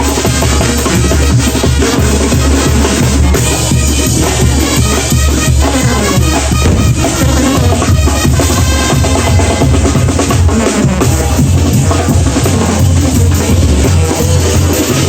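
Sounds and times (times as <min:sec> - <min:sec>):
bass drum and snare beat: 0:00.0 - 0:15.0
brass band playing: 0:00.0 - 0:15.0.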